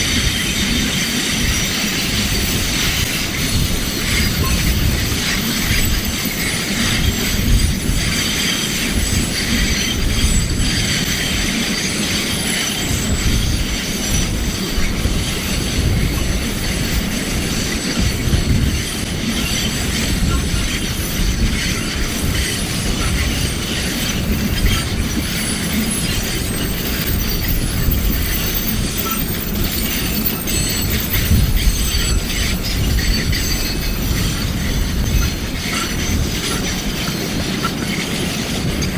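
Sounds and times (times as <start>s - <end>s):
high-pitched wheel squeal: 0.0s - 38.9s
train wagons rumbling: 0.0s - 38.9s
wheels clacking on rails: 0.0s - 38.9s.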